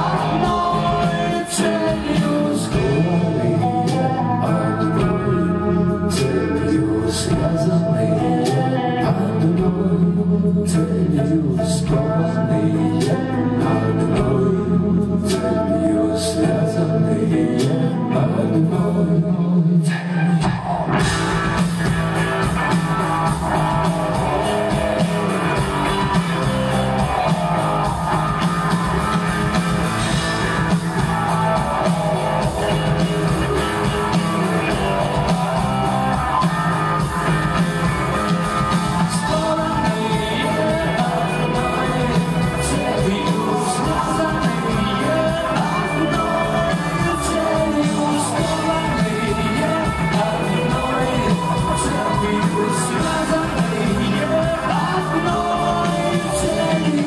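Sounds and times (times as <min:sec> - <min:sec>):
electric guitars: 0:00.0 - 0:57.0
rock band playing: 0:00.0 - 0:57.0.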